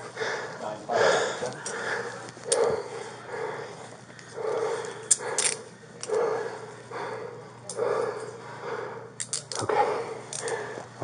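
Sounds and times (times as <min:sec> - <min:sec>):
heavy laboured breathing: 0:00.0 - 0:11.0.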